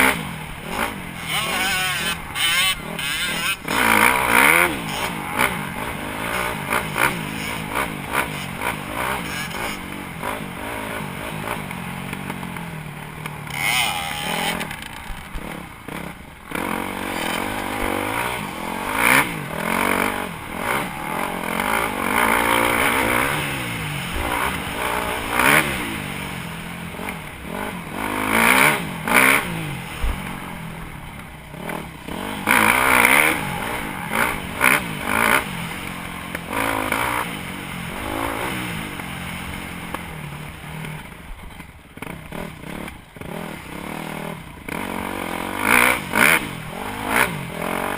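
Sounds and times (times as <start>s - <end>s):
dirt bike engine revving: 0.0s - 41.2s, 42.0s - 47.9s.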